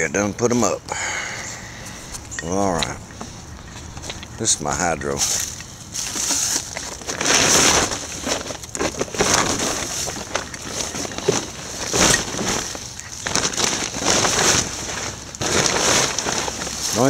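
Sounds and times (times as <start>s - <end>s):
crunching and rustling: 1.9s - 17.0s.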